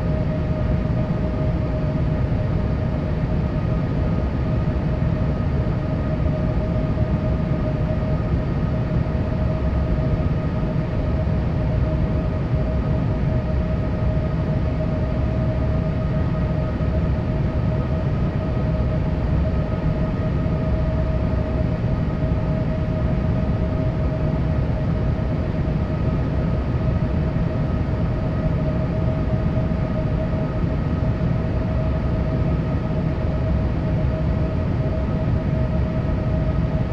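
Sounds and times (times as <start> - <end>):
airliner engine rumble: 0.0 - 36.9
constant whine: 0.0 - 36.9.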